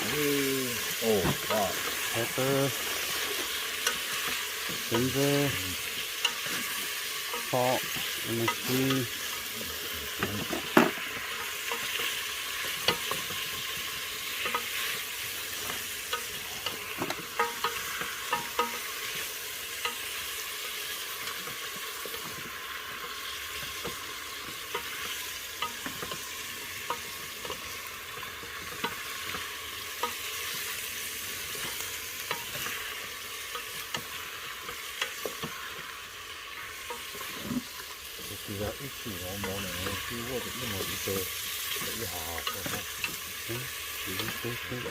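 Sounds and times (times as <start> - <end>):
food sizzling in a pan: 0.0 - 44.9
utensil clicking against pan: 2.7 - 5.2, 5.8 - 44.9.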